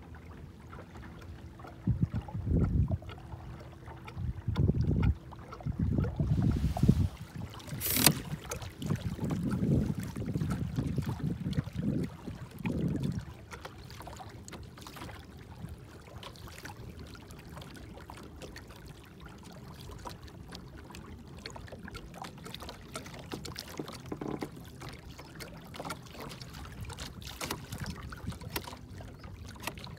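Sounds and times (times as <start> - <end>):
water lapping along hull: 0.0 - 29.9
small splashes: 5.4 - 29.9.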